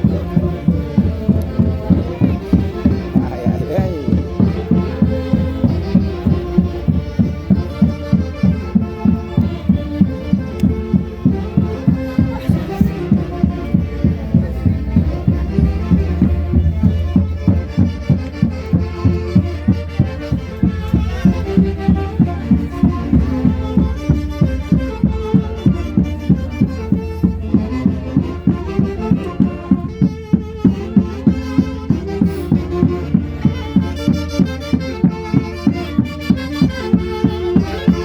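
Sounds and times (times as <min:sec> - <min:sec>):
folk melody instruments: 0:00.0 - 0:38.0
steady thumping beat: 0:00.0 - 0:38.0.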